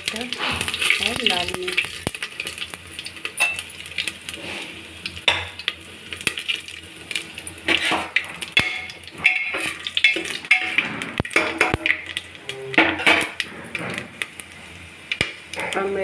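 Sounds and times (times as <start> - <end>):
spices sizzling in hot oil: 0.0 - 16.0.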